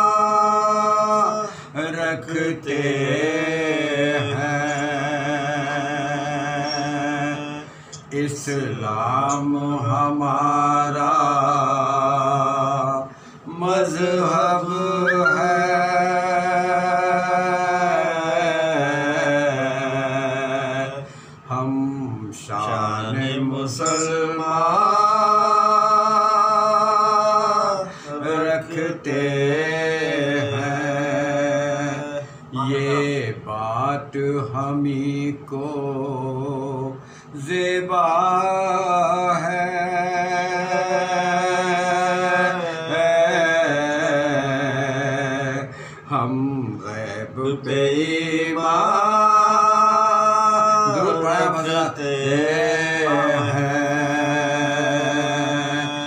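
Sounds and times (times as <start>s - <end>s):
man chanting unaccompanied: 0.0s - 56.0s.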